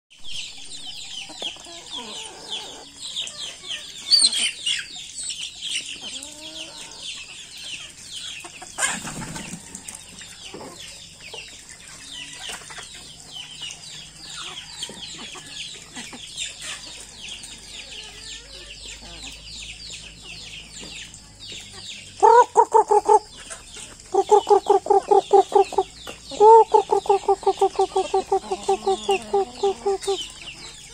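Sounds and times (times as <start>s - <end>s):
chickens peeping: 0.2s - 30.9s
chickens clucking: 0.3s - 30.9s.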